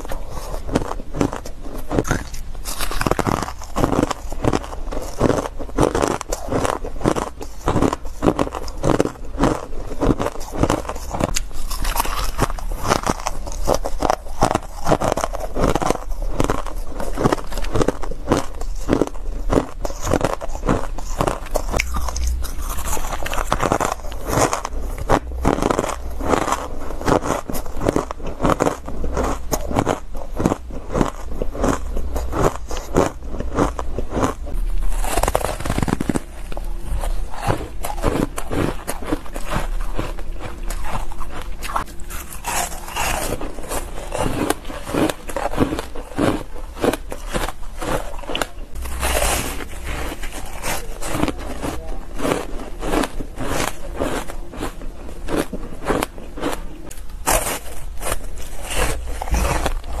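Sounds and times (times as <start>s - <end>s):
ice crunching in mouth: 0.0s - 60.0s.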